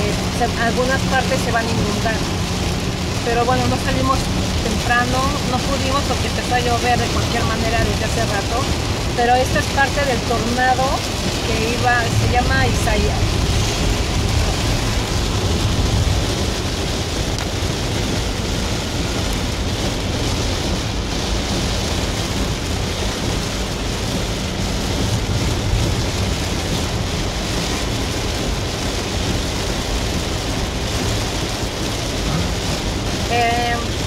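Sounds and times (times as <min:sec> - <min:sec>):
heavy rain on a car: 0:00.0 - 0:34.0
tyres on a flooded road: 0:00.0 - 0:34.0.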